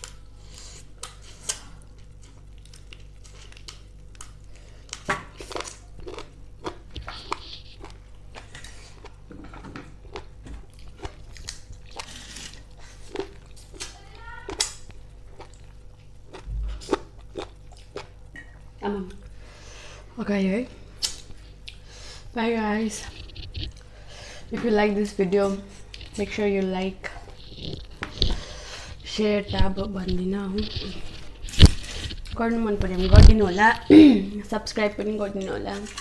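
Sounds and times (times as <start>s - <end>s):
person chewing food: 0.0s - 20.0s, 21.0s - 22.2s, 23.0s - 24.5s, 25.5s - 34.0s.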